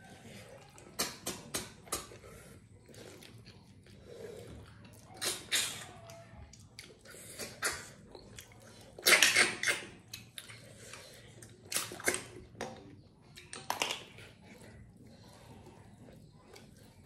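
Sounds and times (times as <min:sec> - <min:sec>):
chewing: 0:00.0 - 0:17.0
slurping: 0:00.0 - 0:17.0.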